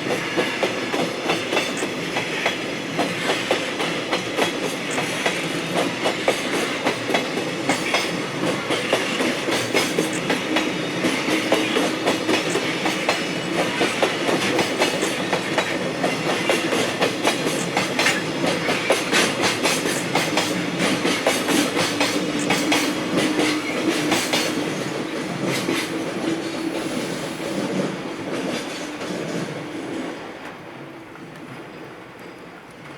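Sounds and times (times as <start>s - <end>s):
train wheels clacking over rail joints: 0.0s - 30.6s
train rumble: 0.0s - 32.9s.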